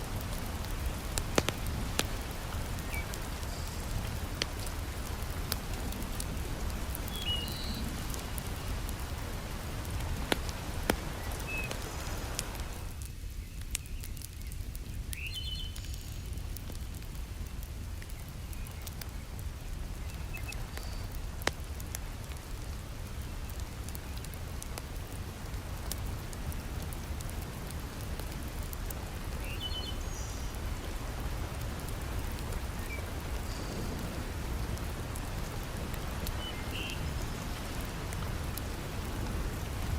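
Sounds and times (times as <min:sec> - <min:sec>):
heavy rain falling: 0:00.0 - 0:13.1, 0:20.2 - 0:39.9
log fire crackling and popping: 0:00.0 - 0:39.9.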